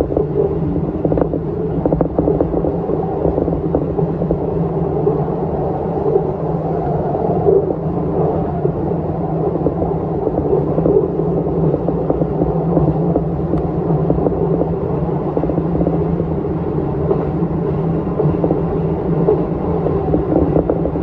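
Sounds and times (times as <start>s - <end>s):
electric train rumbling: 0.0s - 21.0s
low hum: 0.0s - 21.0s.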